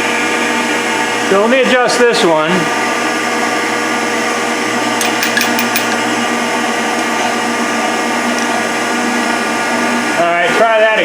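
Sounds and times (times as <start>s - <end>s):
hydraulic pump hum and whine: 0.0s - 11.0s.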